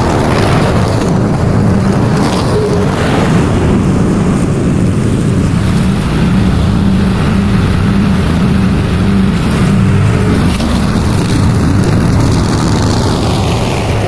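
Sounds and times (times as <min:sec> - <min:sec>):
lawn mower engine cutting grass: 0:00.0 - 0:14.0.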